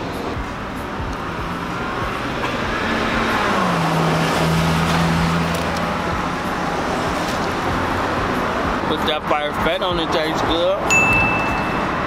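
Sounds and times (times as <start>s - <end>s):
vehicle engine passing: 0.0s - 10.6s
road noise rush: 0.0s - 12.0s.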